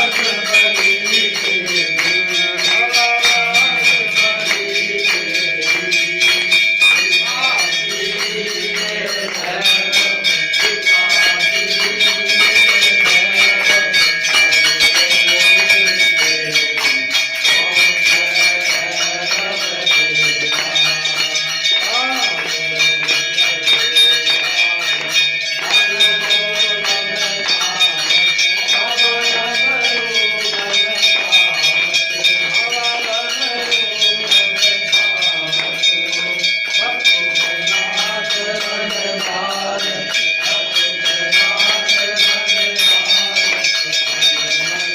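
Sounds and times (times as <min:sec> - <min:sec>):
temple bells ringing rapidly: 0:00.0 - 0:44.9
voices chanting: 0:00.0 - 0:44.9.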